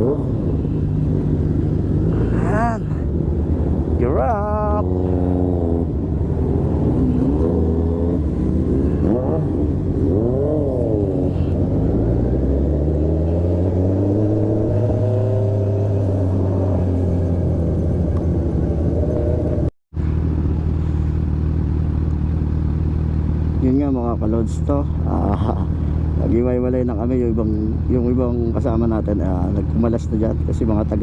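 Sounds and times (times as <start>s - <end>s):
motorcycle engine accelerating: 0.0s - 28.4s.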